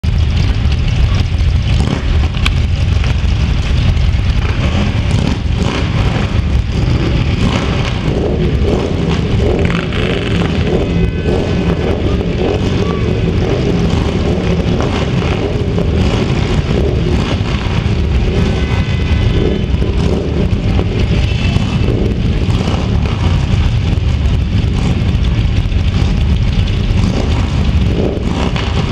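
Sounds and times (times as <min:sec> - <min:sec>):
motorcycles rumbling: 0:00.0 - 0:28.9.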